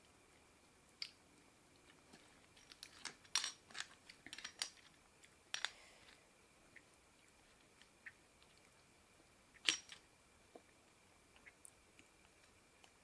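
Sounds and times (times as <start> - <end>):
crackles of eating seafood: 0.0 - 13.0.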